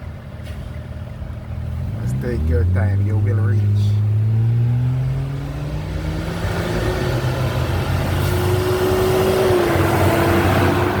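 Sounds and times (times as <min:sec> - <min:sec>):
road noise: 0:00.0 - 0:11.0
car engine accelerating: 0:01.4 - 0:11.0.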